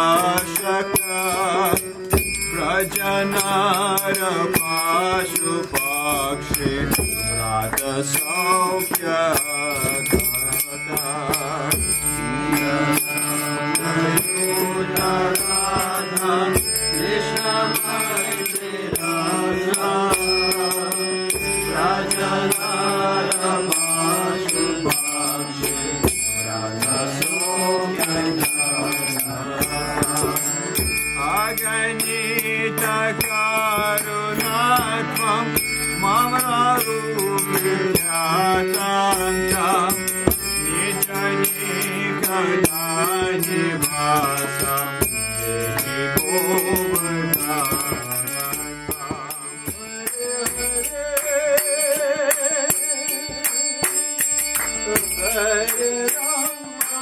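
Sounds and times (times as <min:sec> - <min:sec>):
harmonium playing chords: 0:00.0 - 0:57.0
small hand cymbals ringing: 0:00.0 - 0:57.0
voices singing: 0:00.0 - 0:57.0.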